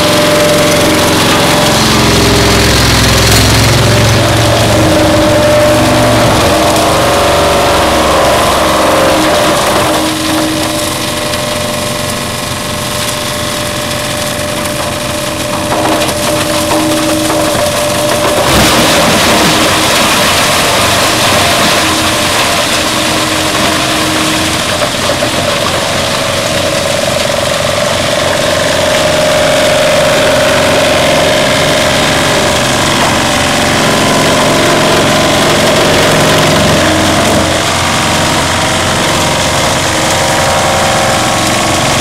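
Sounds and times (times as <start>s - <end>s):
wood chipper machine drone: 0.0s - 42.0s.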